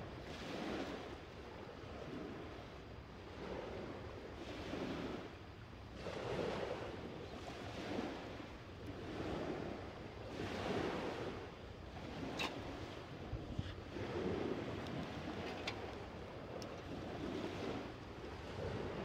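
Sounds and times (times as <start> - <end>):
waves washing onto a beach: 0.0 - 19.0.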